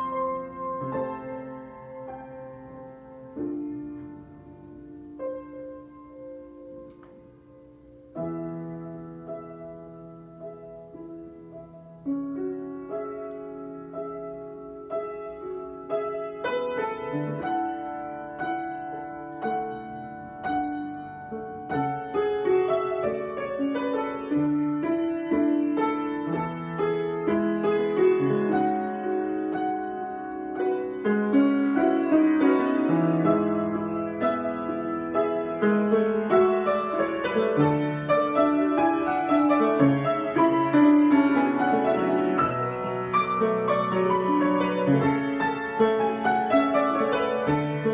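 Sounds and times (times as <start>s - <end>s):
solo piano improvisation: 0.0s - 47.9s.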